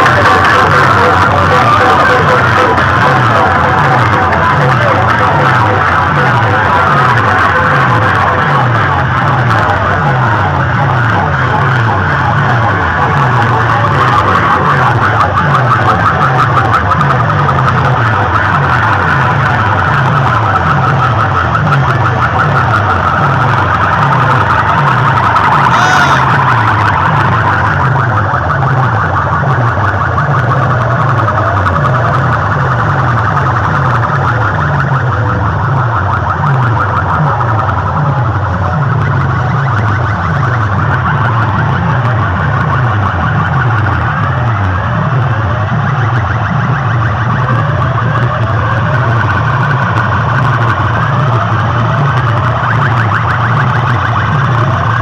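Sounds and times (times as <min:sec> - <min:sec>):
distorted electronic music on loudspeakers: 0:00.0 - 0:55.0.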